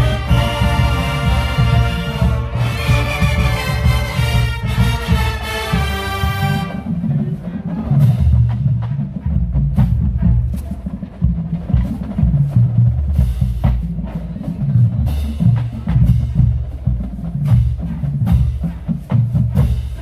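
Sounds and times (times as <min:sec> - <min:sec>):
bass drums pounding: 0:00.0 - 0:20.0
snare drums rattling: 0:00.0 - 0:20.0.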